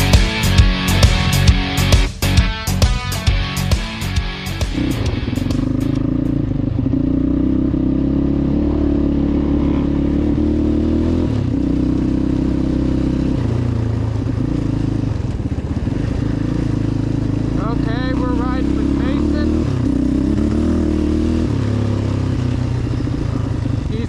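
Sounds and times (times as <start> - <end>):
quad bike engine revving: 0.0 - 24.0.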